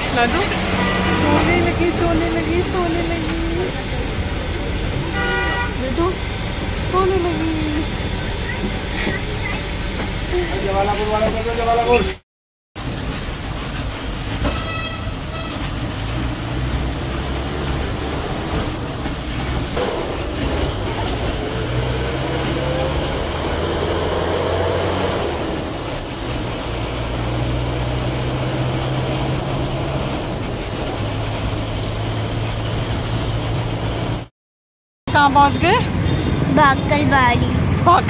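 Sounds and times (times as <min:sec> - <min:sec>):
bus engine droning: 0:00.0 - 0:12.2, 0:12.8 - 0:34.3
road noise inside bus: 0:00.0 - 0:12.2, 0:12.8 - 0:34.3, 0:35.1 - 0:38.0.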